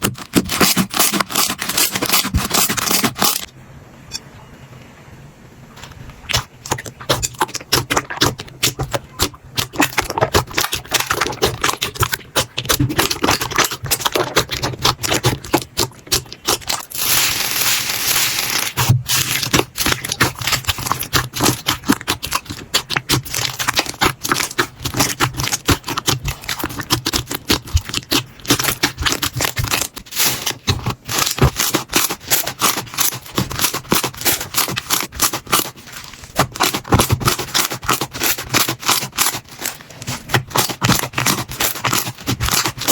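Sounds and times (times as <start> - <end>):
slime crackling and popping: 6.3 - 42.9.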